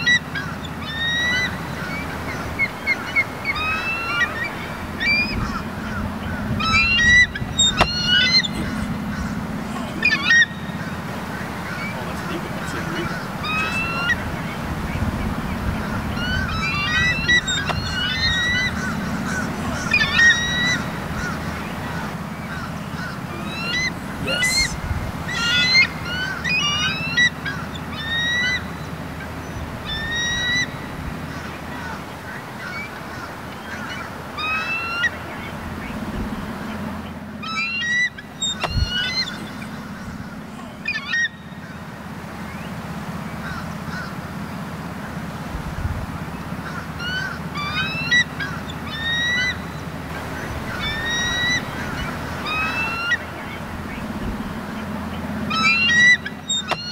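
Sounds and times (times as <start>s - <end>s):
birds of prey piping chirps: 0.0s - 56.9s
steady low rumble: 0.0s - 56.9s.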